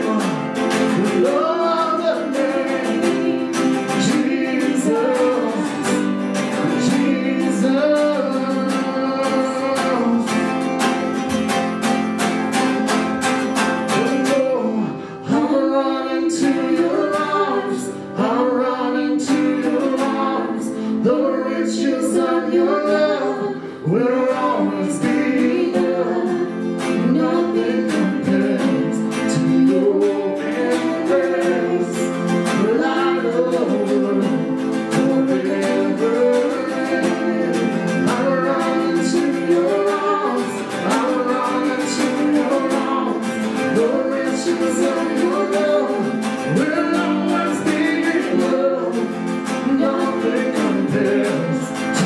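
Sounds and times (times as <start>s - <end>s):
person singing worship song: 0.0s - 11.1s, 13.7s - 52.0s
guitar strumming: 0.0s - 52.0s.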